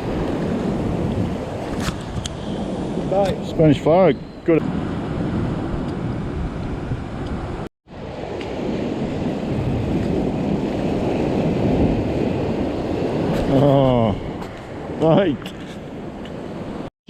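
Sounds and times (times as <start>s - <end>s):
ocean surf on rocks: 0.0s - 16.9s
wind buffeting microphone: 0.0s - 16.9s.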